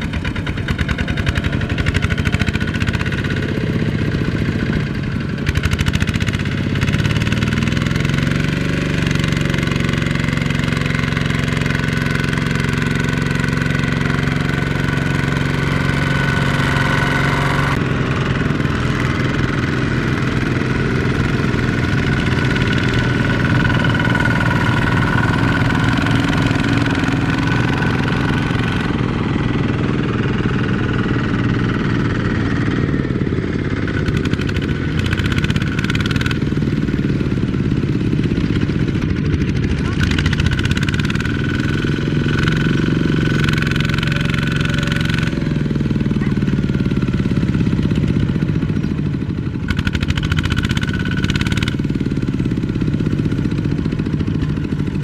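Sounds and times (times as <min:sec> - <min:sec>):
diesel tractor engines running: 0:00.0 - 0:55.0.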